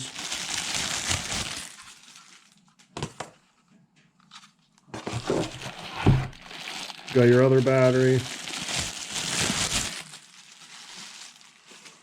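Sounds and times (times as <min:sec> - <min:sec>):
plastic packaging crinkling: 0:00.0 - 0:03.0, 0:05.0 - 0:12.0.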